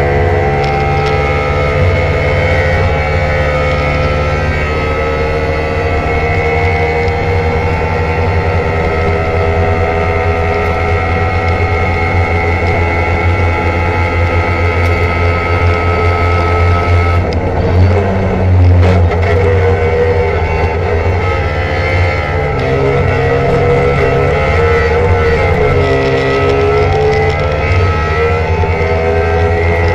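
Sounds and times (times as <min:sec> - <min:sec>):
two-stroke engine running: 0:00.0 - 0:29.9.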